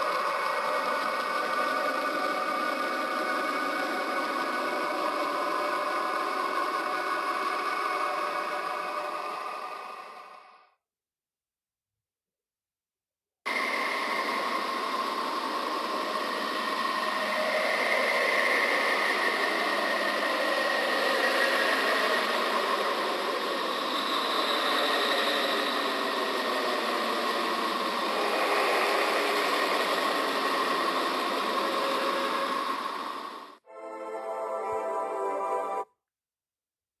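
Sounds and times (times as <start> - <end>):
eerie droning hiss: 0.0 - 10.5, 13.5 - 34.3.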